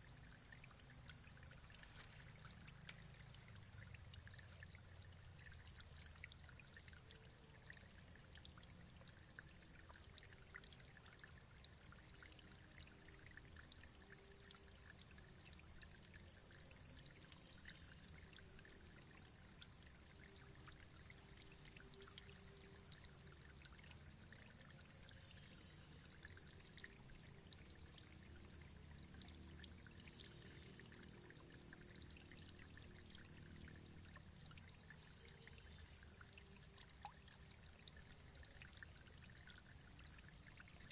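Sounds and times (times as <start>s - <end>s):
trickling stream: 0.0s - 40.9s.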